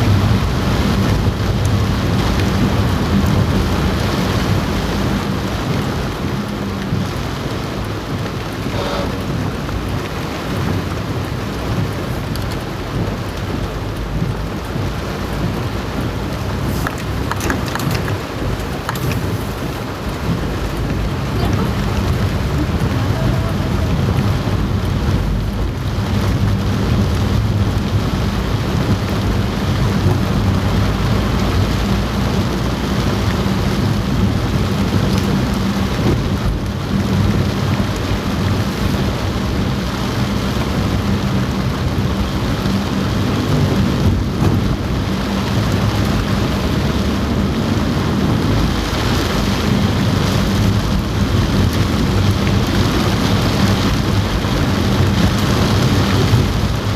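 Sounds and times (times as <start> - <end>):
car driving rumble: 0.0 - 56.9
heavy rain on car roof: 0.0 - 56.9.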